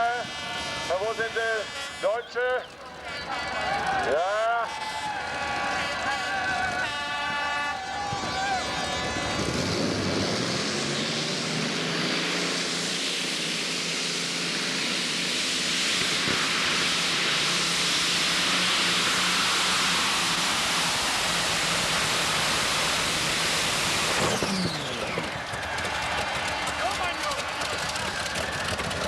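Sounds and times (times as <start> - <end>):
tractor engine roaring: 0.0 - 29.0.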